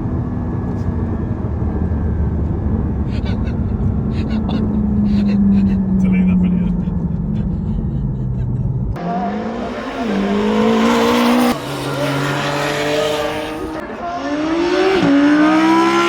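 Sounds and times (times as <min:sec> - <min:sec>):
car engine accelerating hard: 0:00.0 - 0:16.0
steady engine drone: 0:00.0 - 0:16.0.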